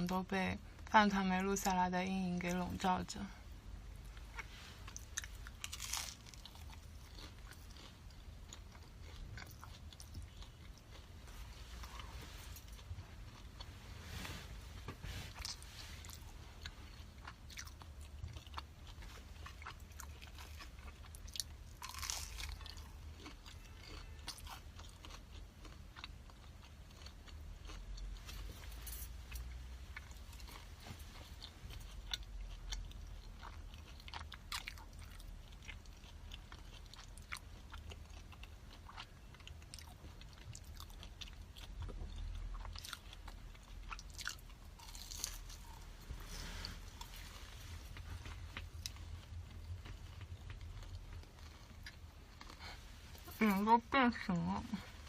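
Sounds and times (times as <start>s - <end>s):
person chewing crunchy food: 4.0s - 53.6s.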